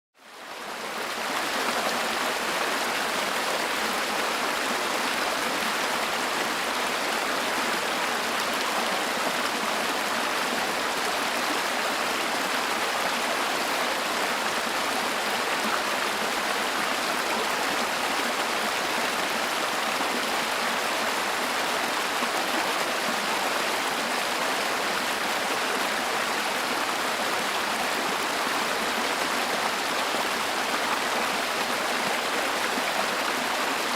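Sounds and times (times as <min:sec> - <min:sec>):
river water rushing: 0:00.5 - 0:33.9.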